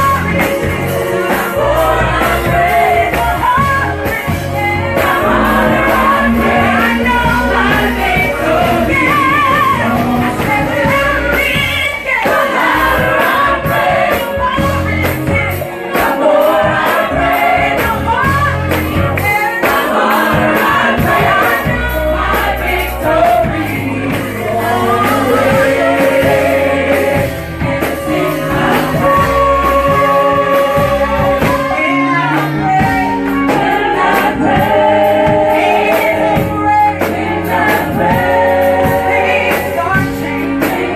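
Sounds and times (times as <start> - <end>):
gospel song with choir and band: 0.0 - 40.9.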